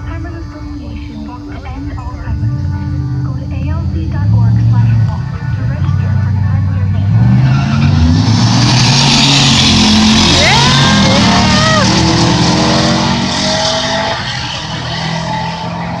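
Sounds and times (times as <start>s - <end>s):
drag car engine running hard: 0.0s - 16.0s.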